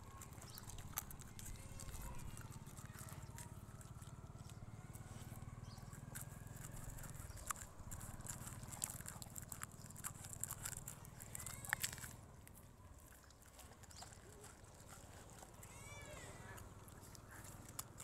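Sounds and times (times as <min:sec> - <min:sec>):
puppy chewing clicks and snaps: 0:00.0 - 0:18.0.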